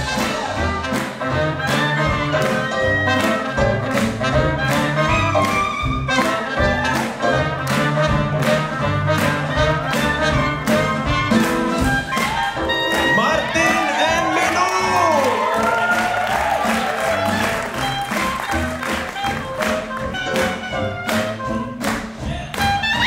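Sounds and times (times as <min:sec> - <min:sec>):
saxophone: 0:00.0 - 0:13.6, 0:16.9 - 0:21.8, 0:22.6 - 0:23.0
trumpet: 0:00.0 - 0:21.8, 0:22.6 - 0:23.0
drums keeping a beat: 0:00.0 - 0:23.0.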